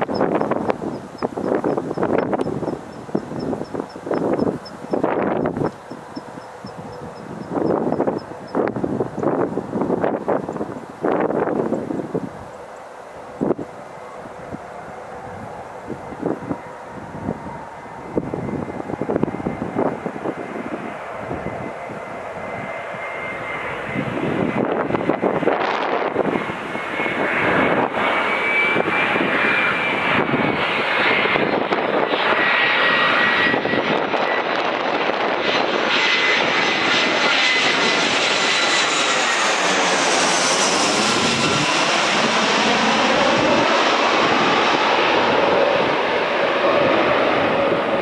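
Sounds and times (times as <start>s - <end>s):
jet airliner passing overhead: 0.0s - 48.0s.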